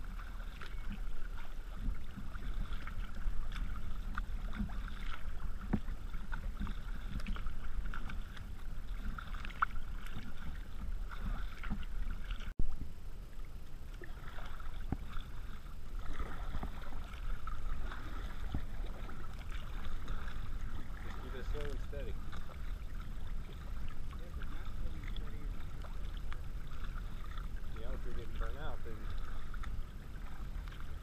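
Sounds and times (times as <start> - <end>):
kayak paddle splashing: 0.0 - 31.0
low steady rumble: 0.0 - 31.0
water lapping against hull: 0.0 - 31.0.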